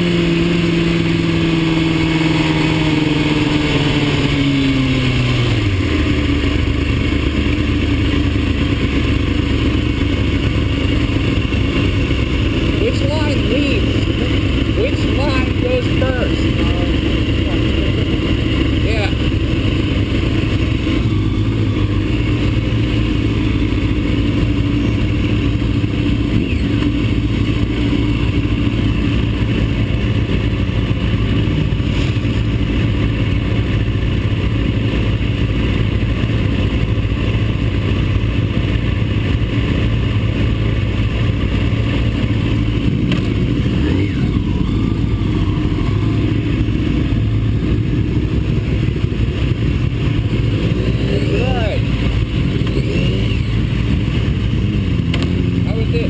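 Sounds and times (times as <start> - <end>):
race car engine drone: 0.0 - 56.0.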